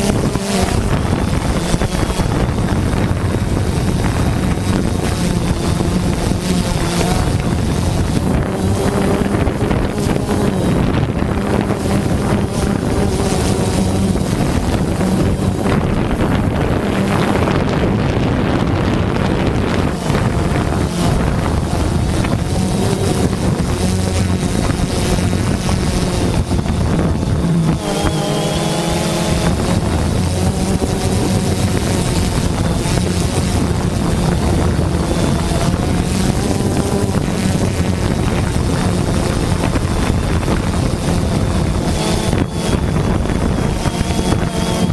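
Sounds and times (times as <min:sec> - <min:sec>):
drone propellers buzzing: 0:00.0 - 0:44.9
wind on microphone: 0:00.0 - 0:44.9.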